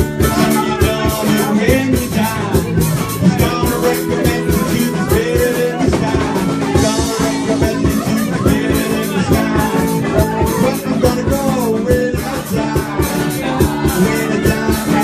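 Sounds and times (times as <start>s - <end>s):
guitar: 0.0s - 15.0s
person singing: 0.0s - 15.0s
steady drum beat: 0.0s - 15.0s.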